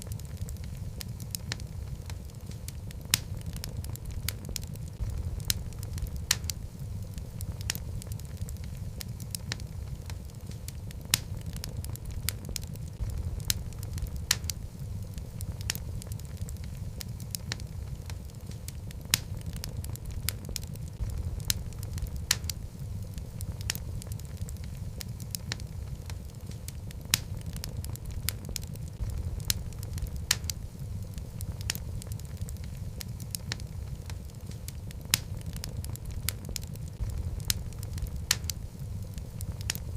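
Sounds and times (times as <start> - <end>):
fire crackling and popping: 0.0 - 39.9
fire flames rumbling: 0.0 - 39.9.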